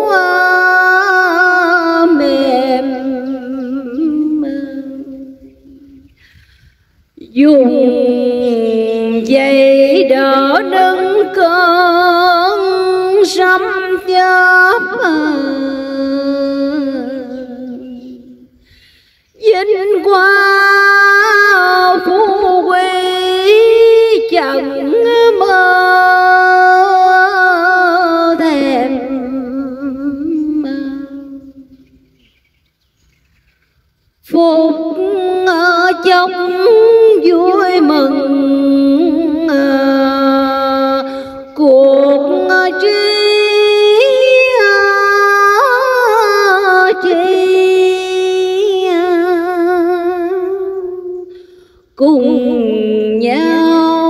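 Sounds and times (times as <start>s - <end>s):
woman chanting: 0.0s - 6.0s, 7.2s - 18.5s, 19.4s - 31.8s, 34.2s - 51.3s, 52.0s - 54.0s.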